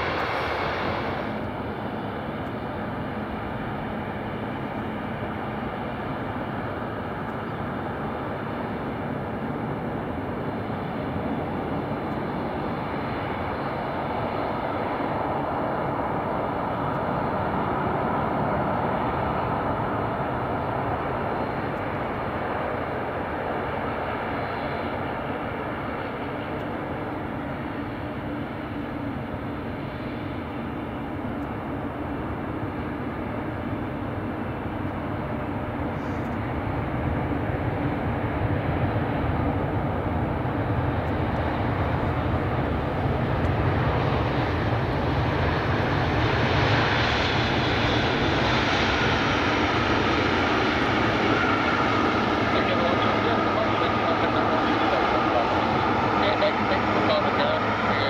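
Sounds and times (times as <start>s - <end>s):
faint engine whine: 0.0s - 58.0s
jet engine roar: 0.0s - 58.0s.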